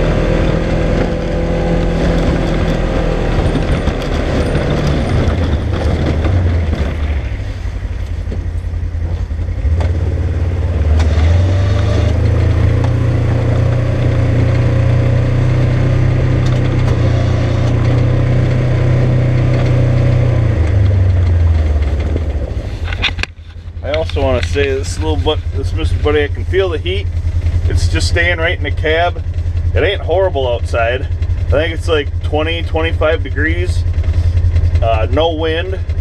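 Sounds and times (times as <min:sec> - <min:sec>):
vehicle engine revving: 0:00.0 - 0:36.0.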